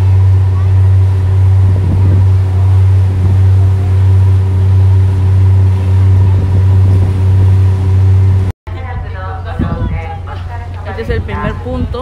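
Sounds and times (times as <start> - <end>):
ship engine droning: 0.0 - 12.0.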